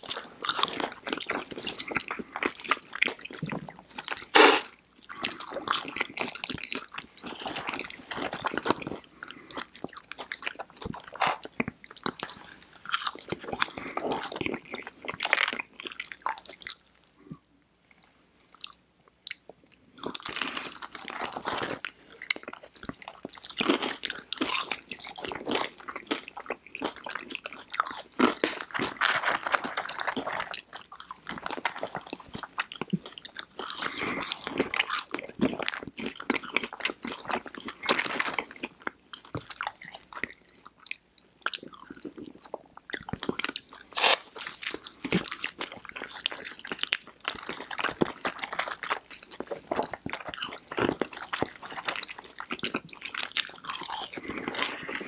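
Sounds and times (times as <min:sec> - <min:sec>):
wet chewing: 0:00.0 - 0:17.3, 0:18.0 - 0:55.0
crisp crunching: 0:04.0 - 0:16.8, 0:20.0 - 0:40.3, 0:43.0 - 0:55.0.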